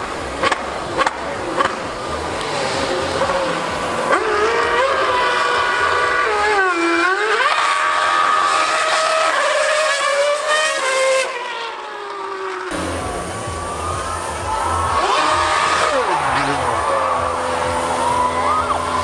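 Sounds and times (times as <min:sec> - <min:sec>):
racing engine revving: 0:00.0 - 0:19.0.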